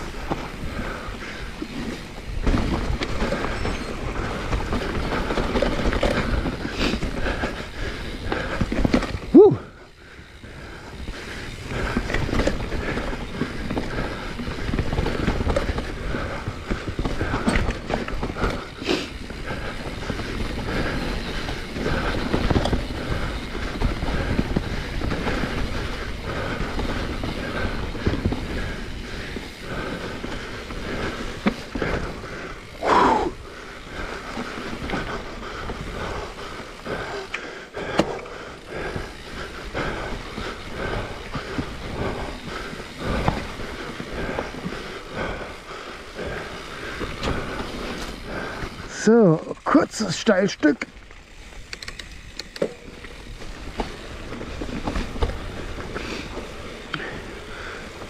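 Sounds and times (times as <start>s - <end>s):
mountain bike rattling on trail: 0.0s - 58.0s.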